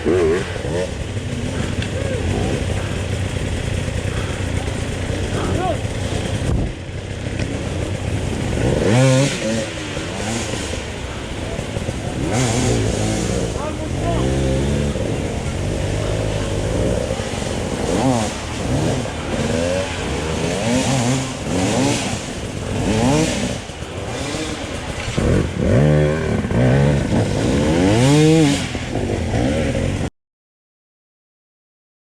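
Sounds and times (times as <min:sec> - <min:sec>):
dirt bike engine revving: 0:00.0 - 0:30.1
rough mechanical and trail noise: 0:00.0 - 0:30.1.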